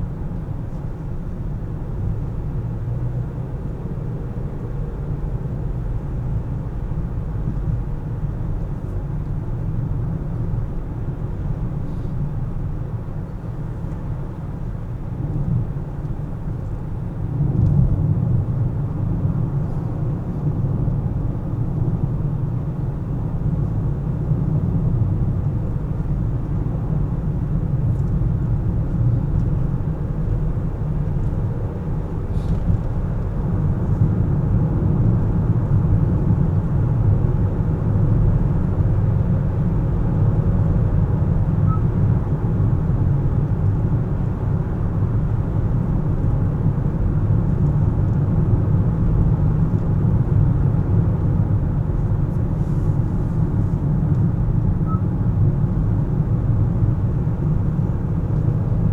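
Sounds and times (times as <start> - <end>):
road and engine noise: 0.0 - 58.9.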